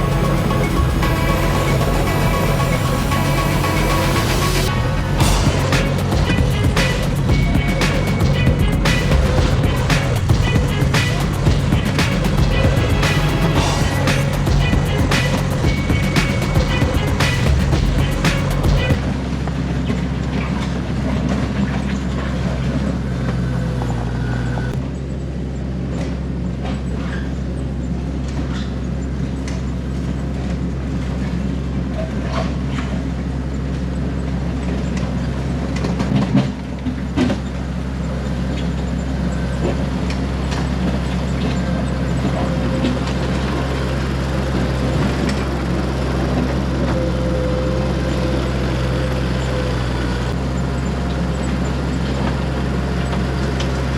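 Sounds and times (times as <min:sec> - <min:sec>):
skid steer engine running: 0:00.0 - 0:53.9.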